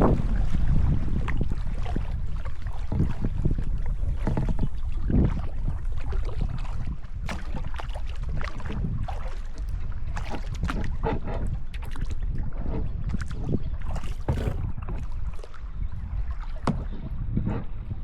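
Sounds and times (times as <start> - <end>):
kayak paddle splashing in water: 0.0 - 18.0
wind rumble on microphone: 0.0 - 18.0.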